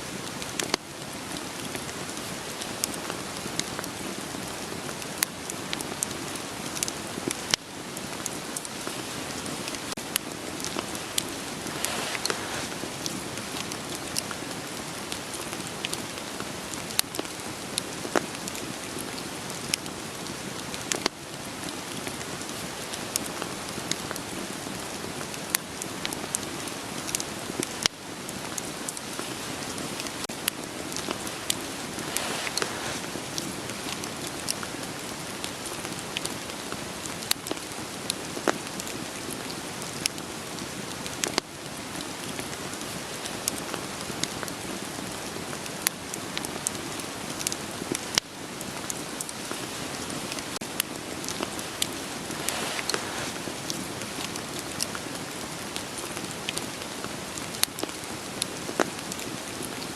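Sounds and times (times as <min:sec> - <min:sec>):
steady rain hiss: 0:00.0 - 0:59.9
campfire crackling and popping: 0:00.2 - 0:59.8.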